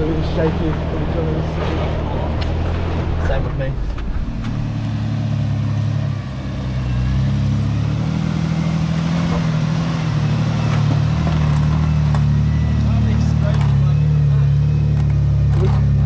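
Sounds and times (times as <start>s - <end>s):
car engine running under load: 0.0s - 16.0s.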